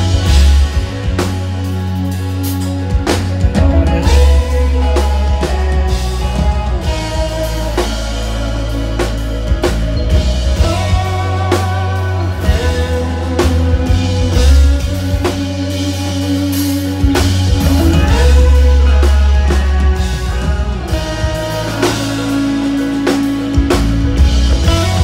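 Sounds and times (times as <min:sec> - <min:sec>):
bass guitar: 0:00.0 - 0:25.0
distorted electric guitar: 0:00.0 - 0:25.0
drum kit: 0:00.0 - 0:25.0
people singing: 0:03.4 - 0:23.7.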